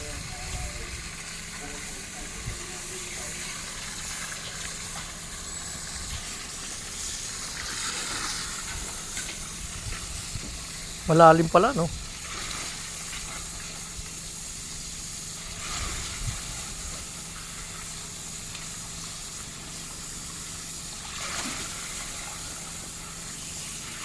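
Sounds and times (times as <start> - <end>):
water hissing from leaking pipe: 0.0 - 24.0.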